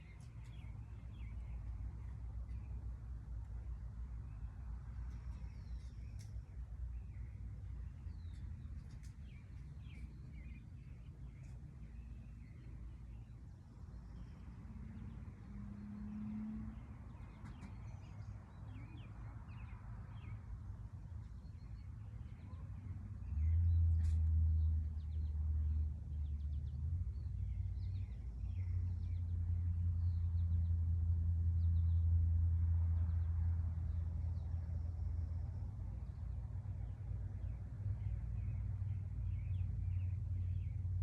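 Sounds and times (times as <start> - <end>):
small birds chirping: 0.0 - 32.1, 33.0 - 41.0.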